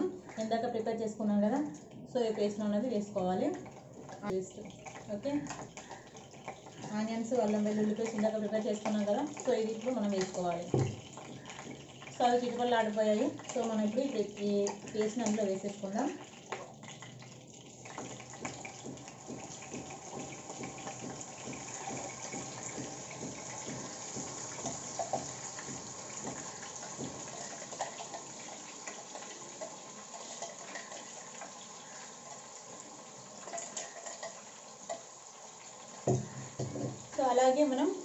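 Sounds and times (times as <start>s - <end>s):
paste sizzling in hot oil: 4.2s - 38.0s.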